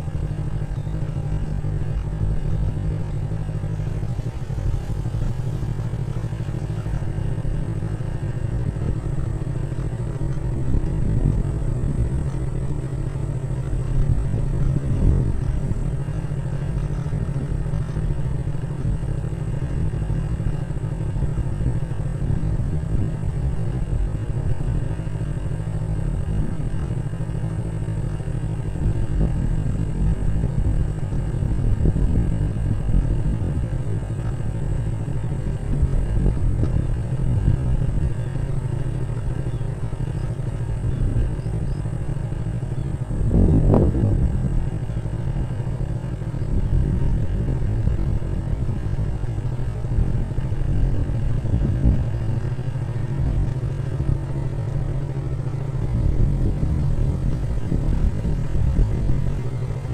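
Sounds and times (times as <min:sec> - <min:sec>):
vehicle rumbling and buffeting: 0:00.0 - 0:59.9
wind on microphone: 0:00.0 - 0:59.9.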